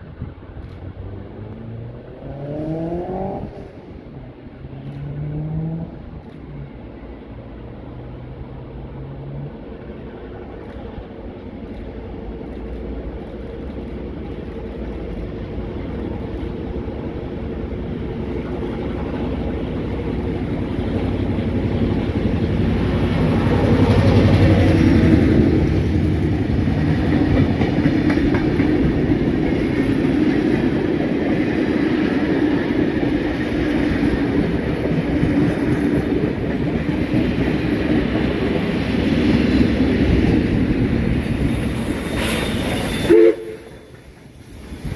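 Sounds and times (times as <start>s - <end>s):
passenger train passing: 0.0s - 44.9s
steam locomotive: 0.0s - 44.9s
wheels rumbling over rails: 0.0s - 44.9s.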